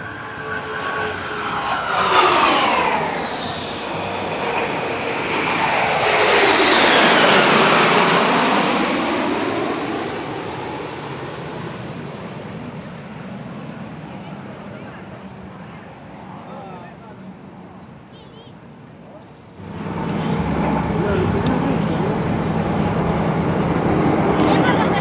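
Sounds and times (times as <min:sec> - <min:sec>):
jet aircraft passing by: 0:00.0 - 0:16.9, 0:19.6 - 0:25.0.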